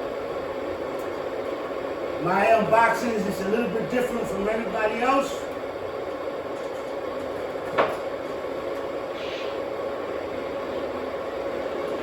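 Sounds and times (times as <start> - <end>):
model train running on track: 0.0 - 7.5, 9.7 - 12.0.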